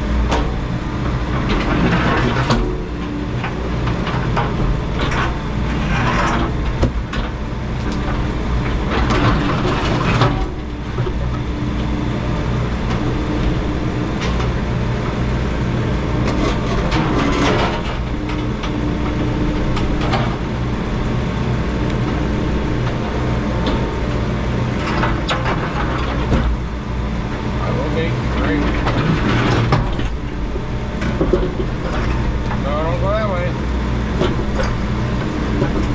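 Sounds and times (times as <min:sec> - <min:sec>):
excavator diesel engine: 0:00.0 - 0:35.9.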